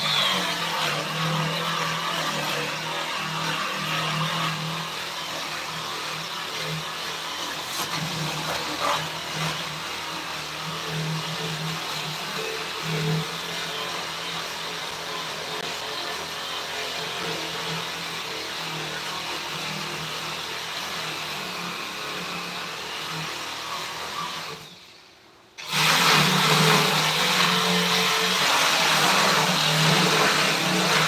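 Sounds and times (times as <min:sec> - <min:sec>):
power tool motor whirring: 0:00.0 - 0:31.0.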